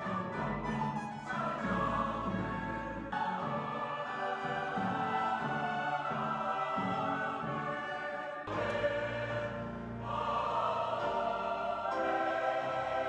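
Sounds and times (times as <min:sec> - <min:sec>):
church choir singing: 0:00.0 - 0:13.0.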